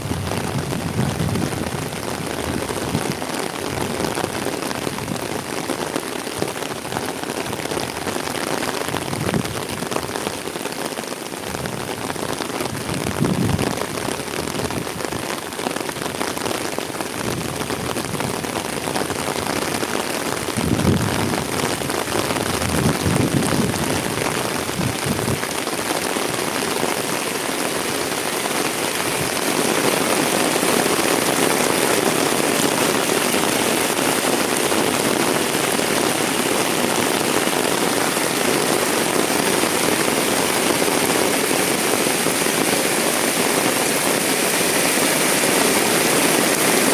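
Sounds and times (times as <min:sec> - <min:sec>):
heavy rain: 0:00.0 - 0:46.9.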